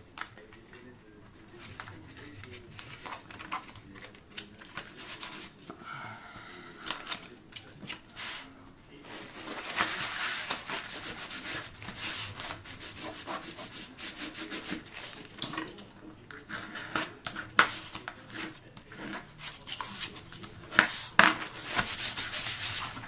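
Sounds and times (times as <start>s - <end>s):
paper scraping and crinkling: 0.1s - 5.7s, 6.8s - 23.0s.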